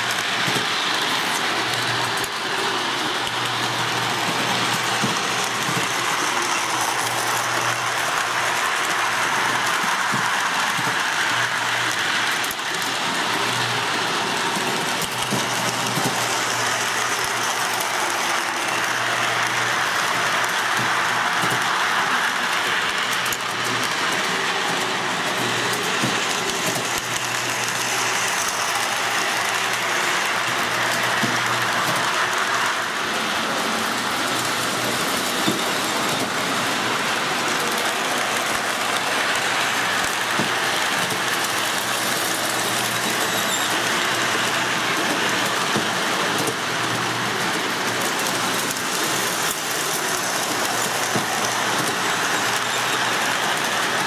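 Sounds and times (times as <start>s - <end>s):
model train whirring rumble: 0.0s - 54.0s.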